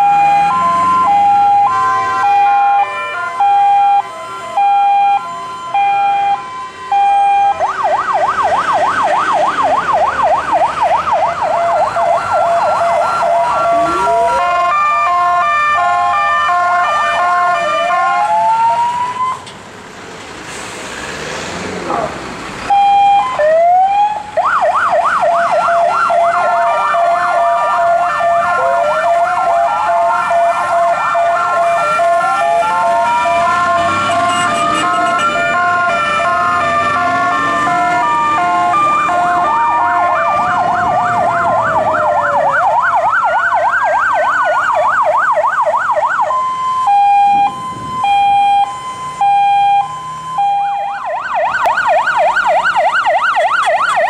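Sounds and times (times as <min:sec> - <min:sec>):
siren yelp: 0:00.0 - 0:19.4, 0:22.7 - 0:54.0
two-tone siren: 0:00.0 - 0:19.4, 0:22.7 - 0:54.0
siren wail: 0:00.0 - 0:19.5, 0:22.7 - 0:54.0.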